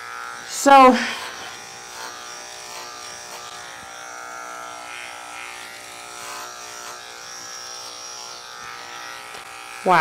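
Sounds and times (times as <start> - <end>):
electric clipper humming: 0.0 - 10.0.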